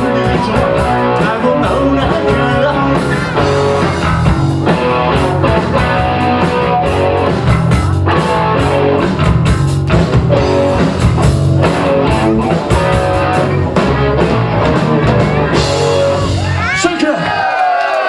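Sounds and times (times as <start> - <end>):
electric guitar: 0.0 - 16.8
bass: 0.0 - 17.4
drum kit: 0.0 - 17.4.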